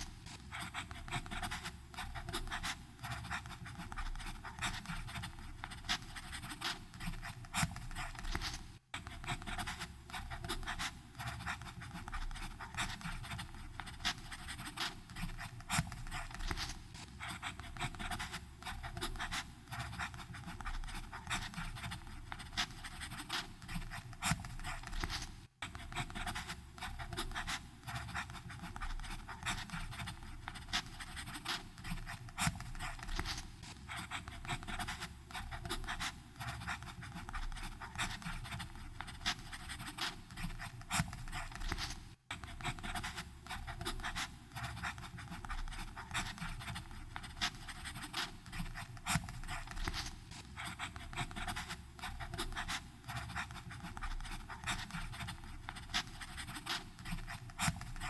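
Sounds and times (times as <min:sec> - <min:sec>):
fountain pen scratching on paper: 0:00.0 - 0:58.0.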